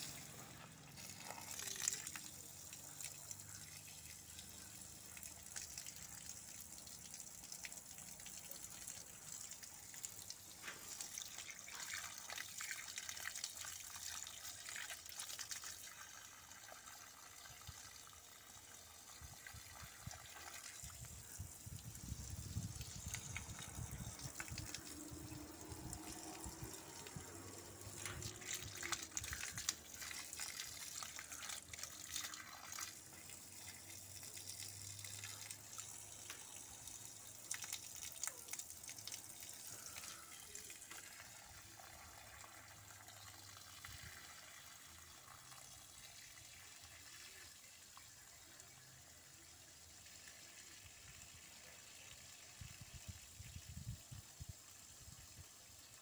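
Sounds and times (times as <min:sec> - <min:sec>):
water gushing from hose: 0:00.0 - 0:56.0.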